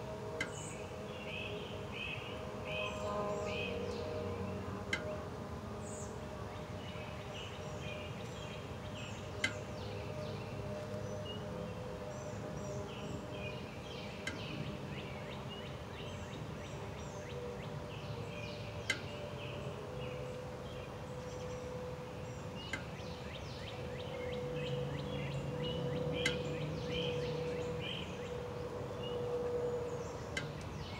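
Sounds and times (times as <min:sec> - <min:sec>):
low steady hum: 0:00.0 - 0:30.9
songbirds chirping: 0:00.0 - 0:30.9.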